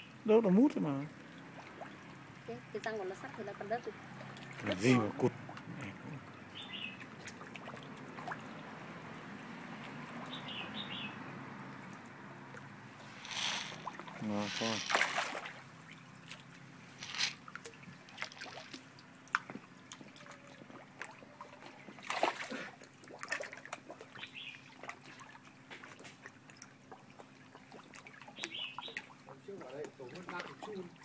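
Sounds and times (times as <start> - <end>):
fish splashing and gulping: 1.1 - 31.0.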